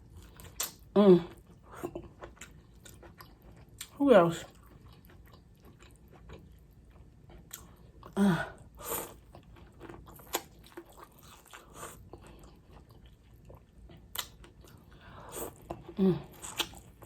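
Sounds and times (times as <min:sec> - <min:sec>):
chewing and biting food: 0:00.0 - 0:08.2, 0:09.0 - 0:17.0.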